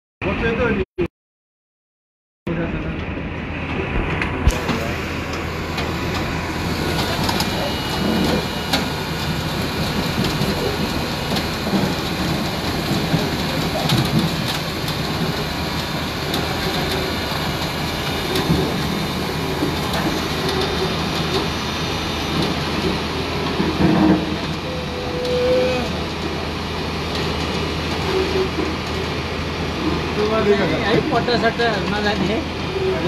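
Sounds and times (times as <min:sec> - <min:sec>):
diesel engine running: 0:02.5 - 0:33.0.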